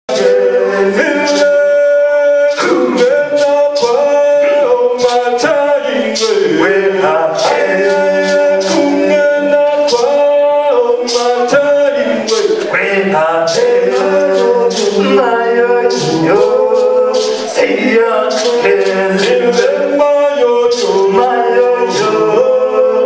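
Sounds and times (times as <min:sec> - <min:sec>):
person singing unaccompanied: 0:00.1 - 0:23.0.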